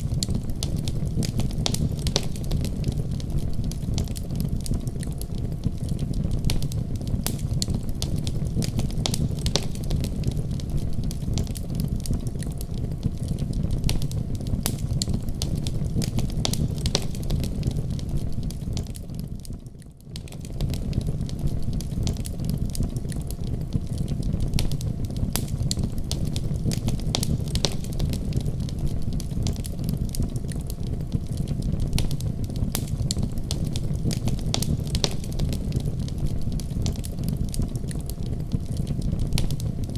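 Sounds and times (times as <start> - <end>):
low rumble of flames: 0.0 - 39.9
sharp pops from fire: 0.0 - 39.9
wood fire crackling: 0.0 - 39.9.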